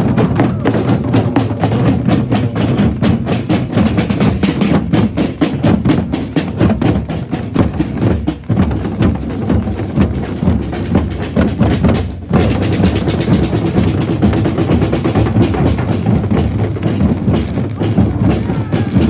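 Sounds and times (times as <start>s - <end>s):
drum band playing fast beat: 0.0s - 19.0s.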